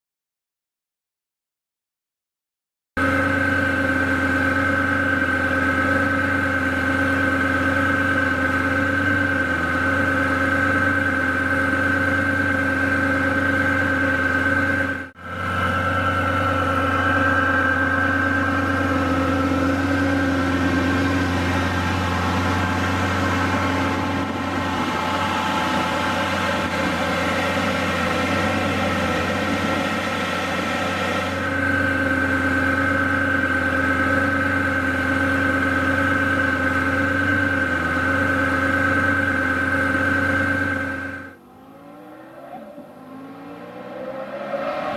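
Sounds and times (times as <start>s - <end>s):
sports car engine idling: 3.0s - 43.2s.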